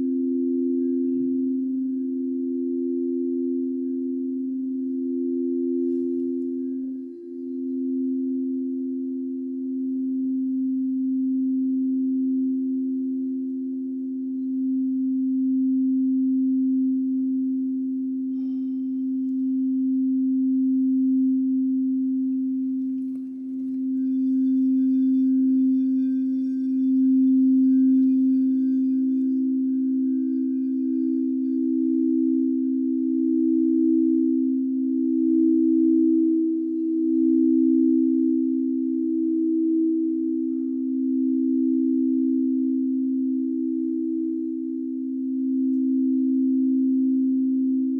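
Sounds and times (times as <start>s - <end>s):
faint high ringing: 0.0s - 47.9s
singing bowls low tones: 0.0s - 47.9s.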